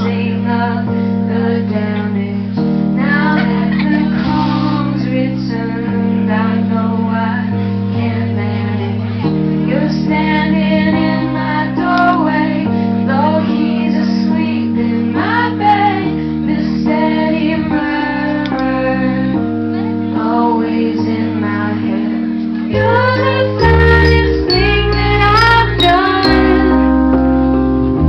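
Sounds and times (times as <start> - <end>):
woman singing: 0.0 - 27.0
keyboard chords: 0.0 - 28.0.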